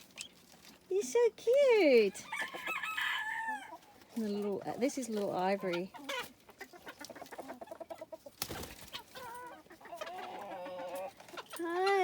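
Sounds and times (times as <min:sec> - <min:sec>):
poultry clucking and calling: 0:02.0 - 0:12.0.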